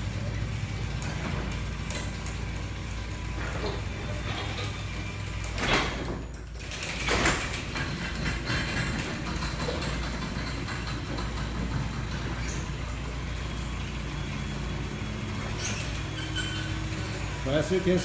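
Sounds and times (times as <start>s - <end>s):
doors rattling along tracks: 0.0s - 18.0s
garage door opener drone: 0.0s - 18.0s.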